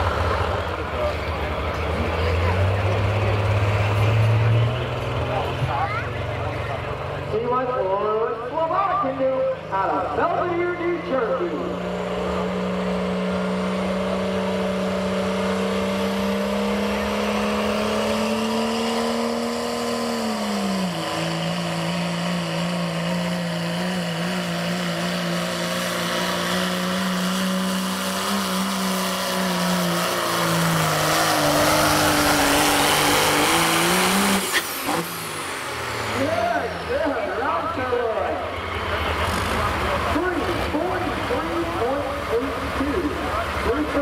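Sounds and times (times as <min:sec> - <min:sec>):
diesel truck engine droning: 0:00.0 - 0:44.0.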